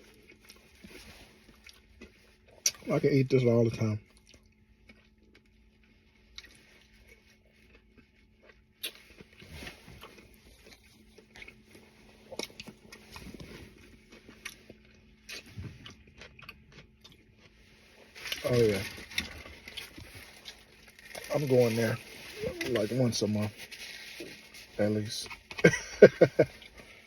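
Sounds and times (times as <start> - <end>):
person chewing: 0.0 - 2.9, 4.0 - 22.9.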